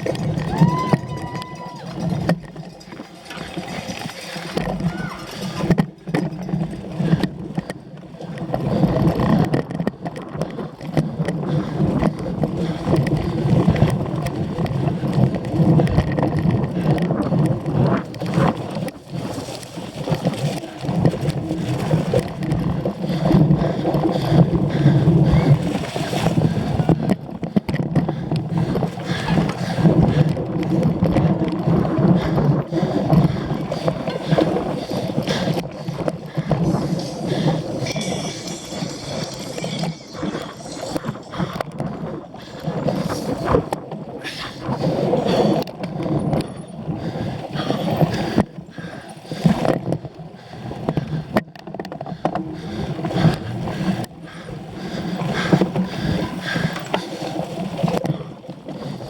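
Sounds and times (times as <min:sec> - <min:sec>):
wind rushing over microphone: 0:00.0 - 0:03.0, 0:08.3 - 0:59.0
bike rattling over rough ground: 0:00.0 - 0:59.0.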